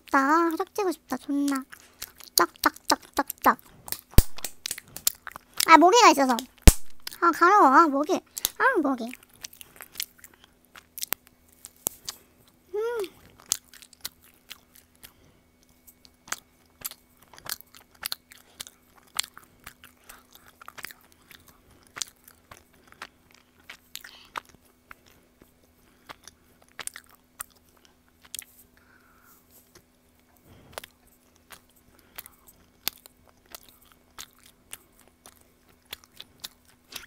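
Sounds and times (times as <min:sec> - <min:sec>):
faint steady hum: 0:00.0 - 0:37.0
wet chewing mouth clicks: 0:00.1 - 0:07.4, 0:08.2 - 0:29.0, 0:29.6 - 0:37.0.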